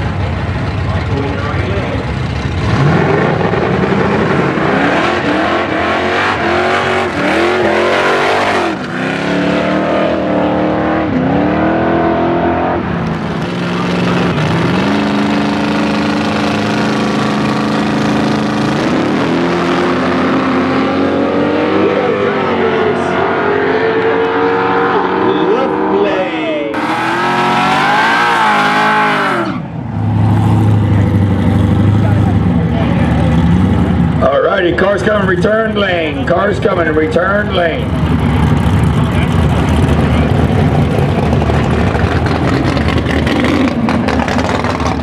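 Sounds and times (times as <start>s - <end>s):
drag racing cars accelerating: 0.0s - 45.0s.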